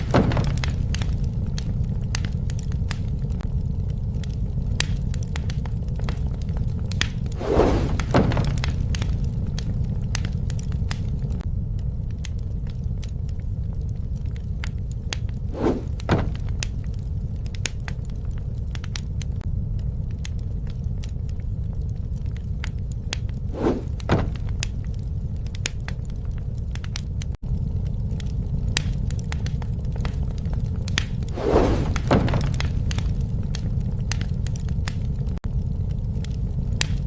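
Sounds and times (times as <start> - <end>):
low rumble: 0.0 - 37.0
wood fire crackling: 0.0 - 37.0.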